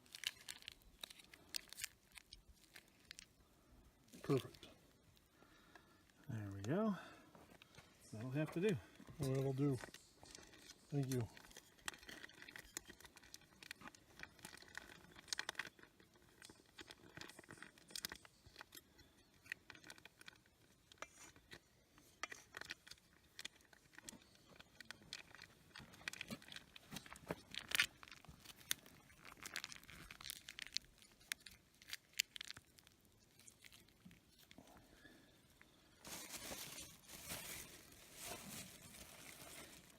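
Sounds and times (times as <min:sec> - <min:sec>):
packaging rustling and crinkling: 0:00.0 - 0:03.4, 0:07.4 - 0:39.9.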